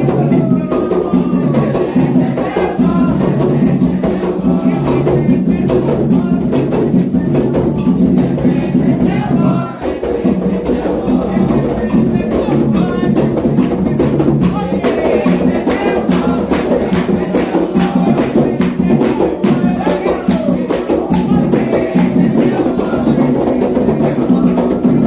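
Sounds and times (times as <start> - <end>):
hand drums playing fast rhythm: 0.0 - 25.0
voices singing: 0.0 - 25.0.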